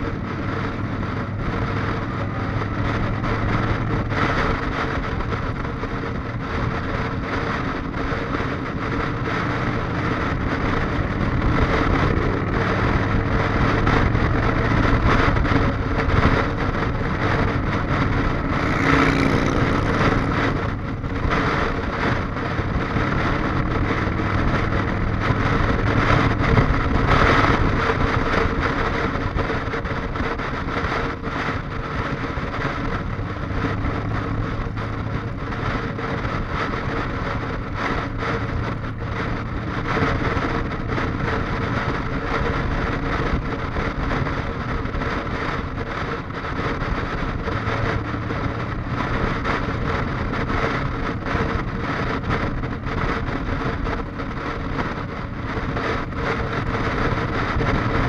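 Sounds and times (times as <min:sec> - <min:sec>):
motorcycle engine running: 0:00.0 - 0:58.0
wind rushing: 0:00.0 - 0:58.0.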